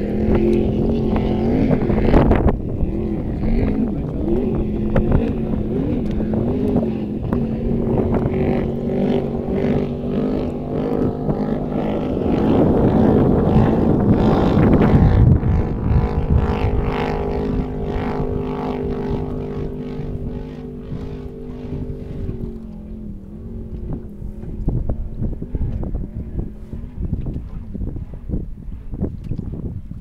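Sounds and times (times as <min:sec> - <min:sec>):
motorboat engine drone: 0:00.0 - 0:30.0.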